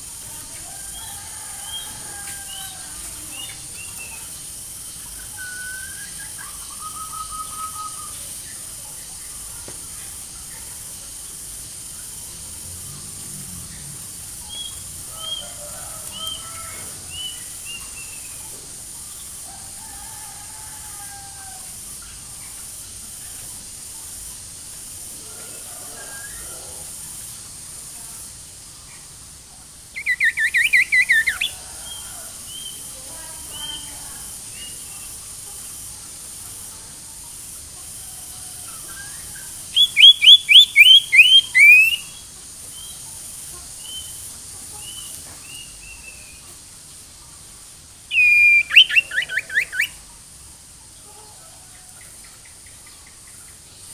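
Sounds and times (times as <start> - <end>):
faint chirps: 0.0 - 53.9.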